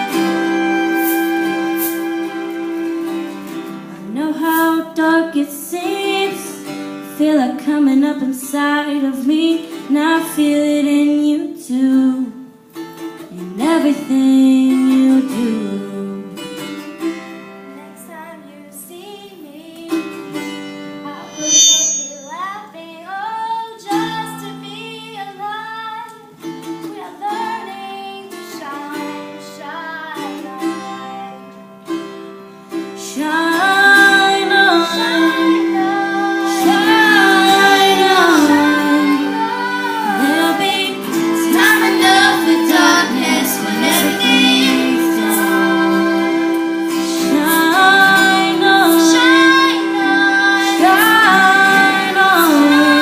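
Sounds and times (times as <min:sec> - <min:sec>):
guitar accompaniment: 0:00.0 - 0:53.0
young women singing: 0:04.0 - 0:12.4, 0:13.3 - 0:16.4, 0:17.7 - 0:20.3, 0:22.2 - 0:26.3, 0:26.9 - 0:31.5, 0:33.0 - 0:53.0.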